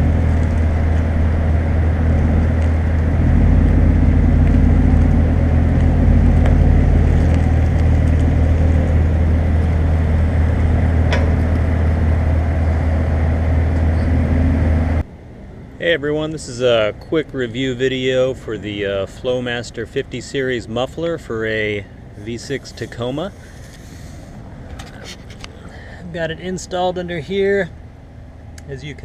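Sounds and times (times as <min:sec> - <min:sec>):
truck engine low exhaust note: 0:00.0 - 0:29.0.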